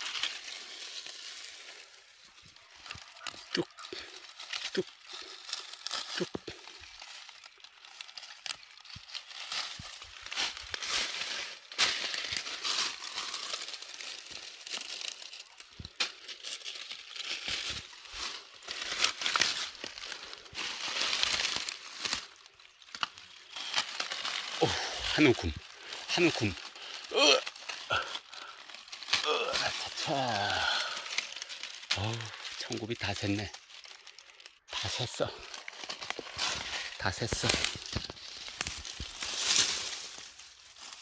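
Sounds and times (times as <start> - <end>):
dry leaves rustling: 0.0 - 41.0.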